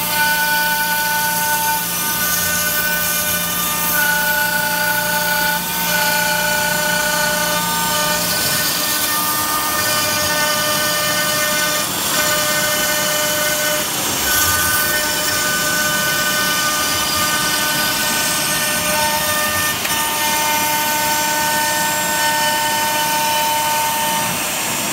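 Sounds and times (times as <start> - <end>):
router spindle whining: 0.0 - 24.9.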